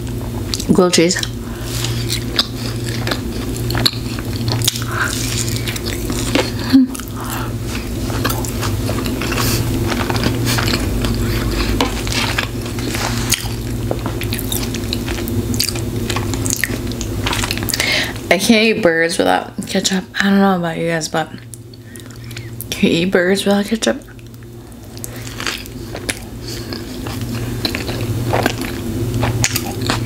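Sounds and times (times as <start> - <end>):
low hum: 0.0 - 30.0
chewing with mouth clicks: 0.5 - 17.8, 21.4 - 22.7, 24.0 - 30.0.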